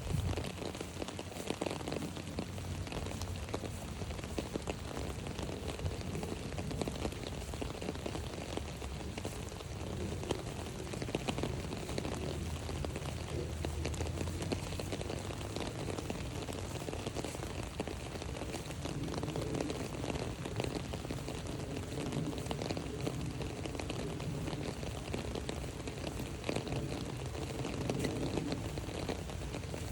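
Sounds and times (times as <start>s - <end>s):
rain pattering on an umbrella: 0.0s - 29.9s.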